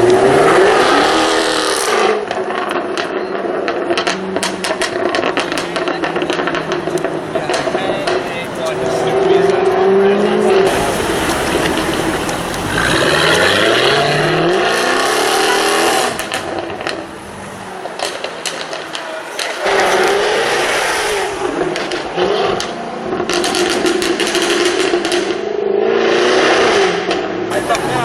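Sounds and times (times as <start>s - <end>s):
exhaust pops and crackles: 0.0s - 25.5s, 26.5s - 28.0s
car engine revving: 0.0s - 28.0s.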